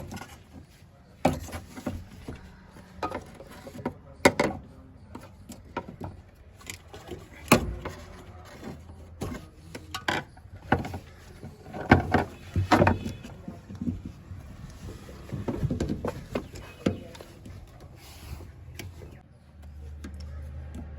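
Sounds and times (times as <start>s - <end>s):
knocks and clatters of tools: 0.0s - 20.9s.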